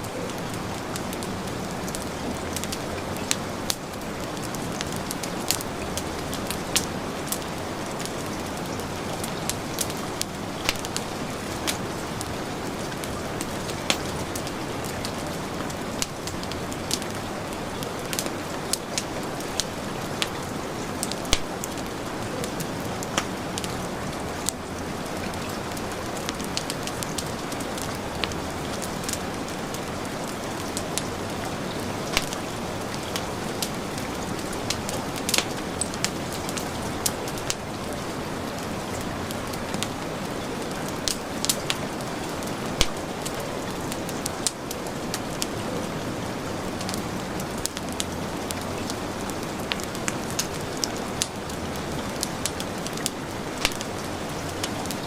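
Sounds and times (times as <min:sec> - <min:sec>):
fireplace crackling and popping: 0:00.0 - 0:55.0
heavy rain falling: 0:00.0 - 0:55.0.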